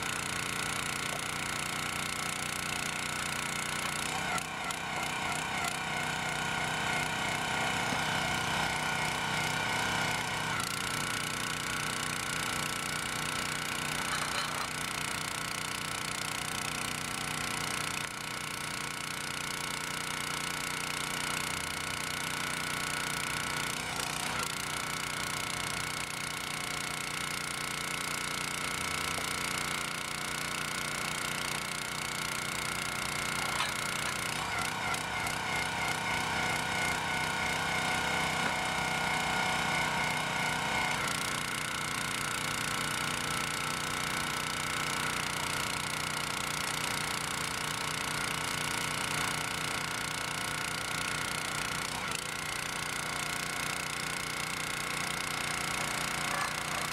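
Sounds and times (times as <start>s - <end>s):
petrol engine running: 0.0s - 56.9s.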